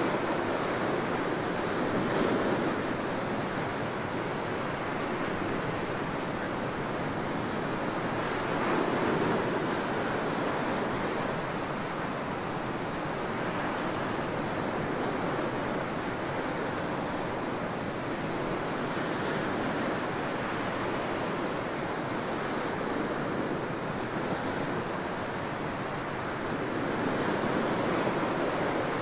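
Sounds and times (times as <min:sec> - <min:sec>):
ocean waves on a beach: 0:00.0 - 0:29.0.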